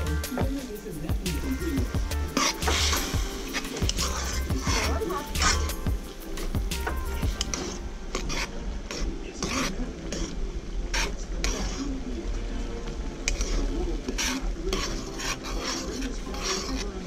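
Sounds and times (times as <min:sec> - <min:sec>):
metal spoon scraping a pan: 0:00.0 - 0:12.2, 0:13.2 - 0:17.0
soft sizzle: 0:00.0 - 0:17.0.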